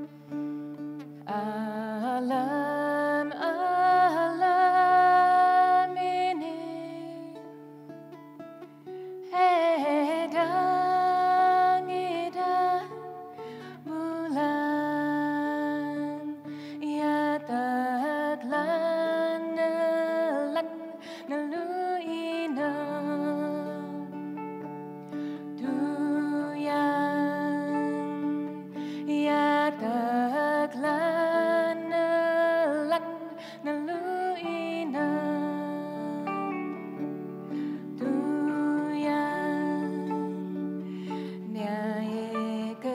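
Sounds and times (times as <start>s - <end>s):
plucked lute notes: 0.0s - 42.9s
woman singing with vibrato: 1.2s - 7.6s, 9.2s - 24.5s, 25.4s - 42.9s.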